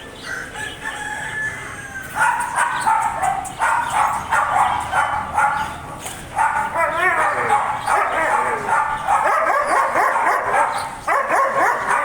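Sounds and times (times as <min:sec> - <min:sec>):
dog barking: 0:02.2 - 0:12.0.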